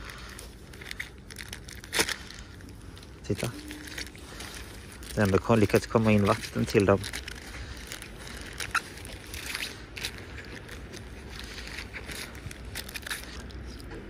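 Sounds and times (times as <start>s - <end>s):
low steady rumble: 0.0s - 14.0s
plastic bag crinkling: 0.0s - 14.0s.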